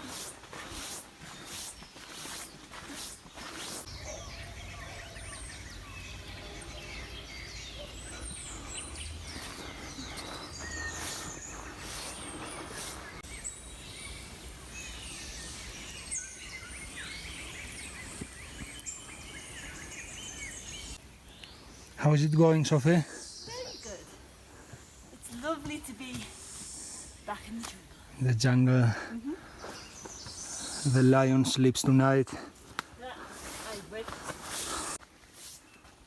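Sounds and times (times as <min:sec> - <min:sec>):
birds singing and chirping: 0:00.7 - 0:35.0.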